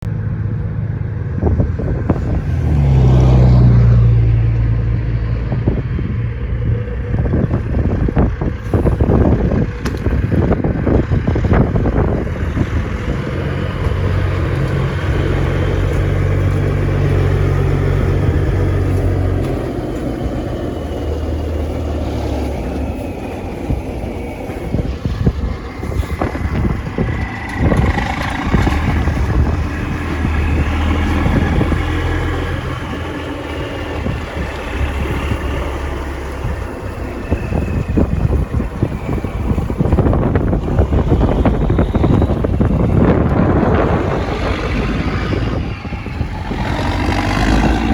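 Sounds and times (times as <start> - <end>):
truck diesel engine: 0.0 - 47.9
rattling clatter: 6.3 - 47.9.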